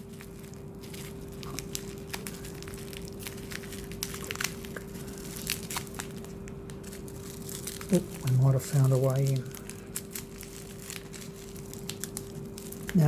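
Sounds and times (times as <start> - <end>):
packaging crinkling and tearing: 0.0 - 13.0
steady low hum: 0.0 - 13.0.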